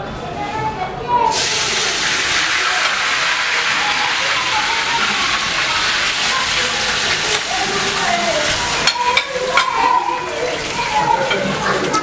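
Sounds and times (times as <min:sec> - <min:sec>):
food sizzling in hot oil: 0:01.3 - 0:12.0.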